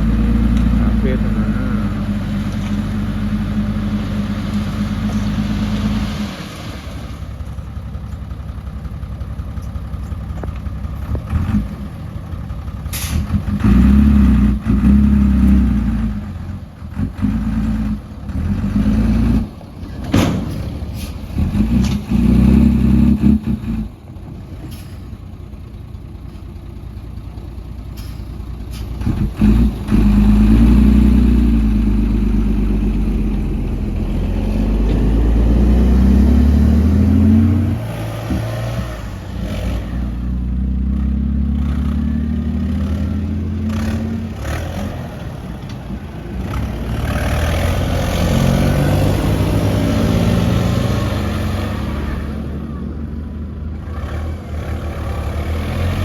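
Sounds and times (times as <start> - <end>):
heavy diesel engines revving: 0.0 - 56.0.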